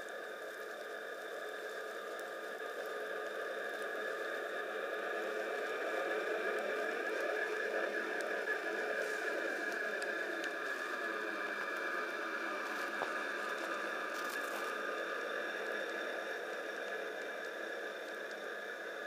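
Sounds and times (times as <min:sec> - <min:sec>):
model locomotive motors whining: 0:00.9 - 0:19.0.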